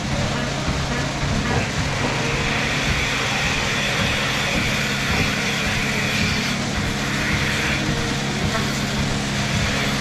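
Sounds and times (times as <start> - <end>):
milking machinery hiss: 0.0 - 10.0
milking machinery hum: 0.0 - 10.0.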